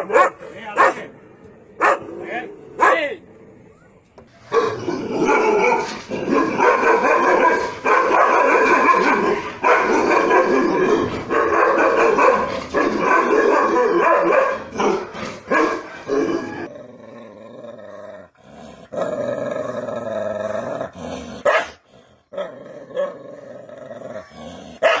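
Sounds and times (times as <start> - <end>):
dogs barking and growling: 0.0 - 25.0.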